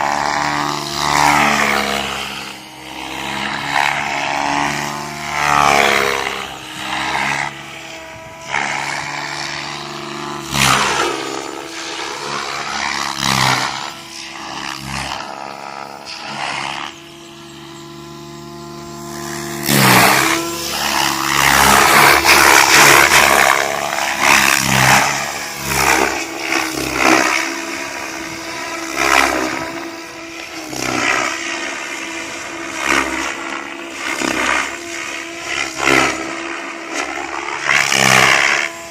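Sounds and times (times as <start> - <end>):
rc helicopter rotor and motor whine: 0.0 - 38.9
rushing blade noise: 0.0 - 38.9.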